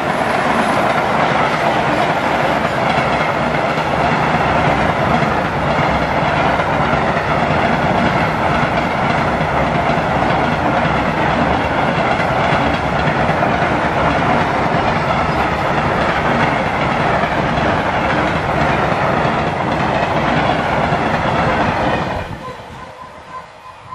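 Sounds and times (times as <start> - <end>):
train wheels running on rails: 0.0 - 23.9.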